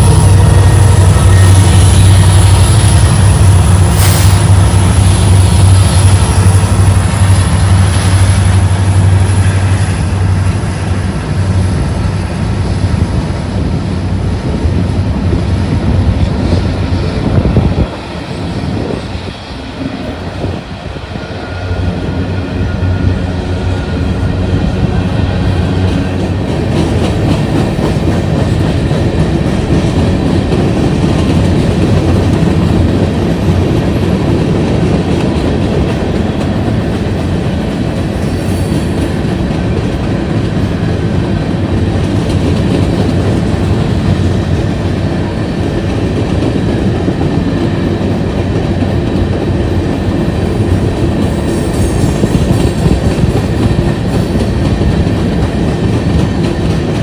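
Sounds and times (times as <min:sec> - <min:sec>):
railroad cars rumbling past: 0:00.0 - 0:57.0.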